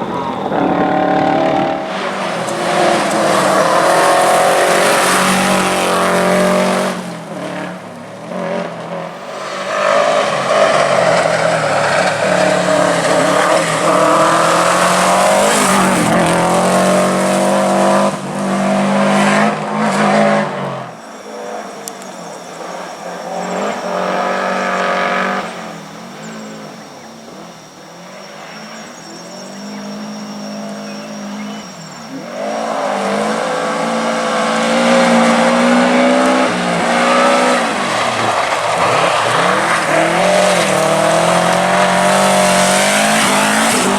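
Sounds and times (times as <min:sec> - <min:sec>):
rally car engine at full throttle: 0:00.0 - 0:43.9.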